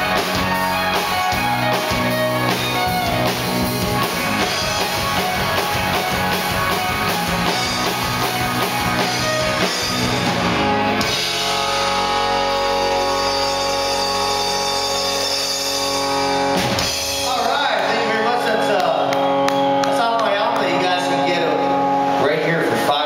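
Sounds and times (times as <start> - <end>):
band holding ringing chord: 0.0 - 18.7
live rock band playing loudly: 0.0 - 23.0.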